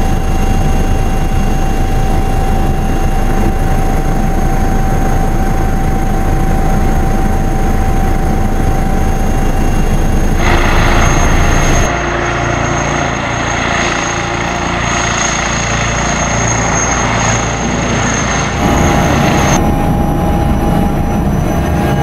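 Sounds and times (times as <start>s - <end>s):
helicopter cabin noise: 0.0s - 22.0s
helicopter flying past: 0.0s - 22.0s.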